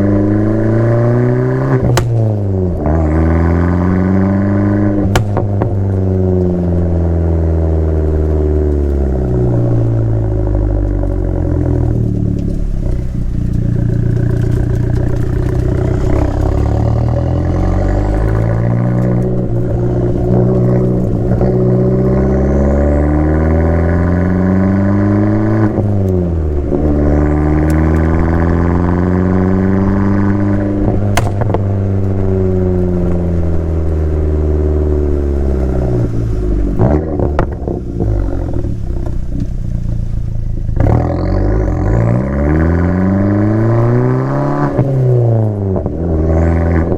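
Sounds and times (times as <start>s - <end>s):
car engine accelerating: 0.0s - 46.9s
exhaust crack: 0.0s - 46.9s.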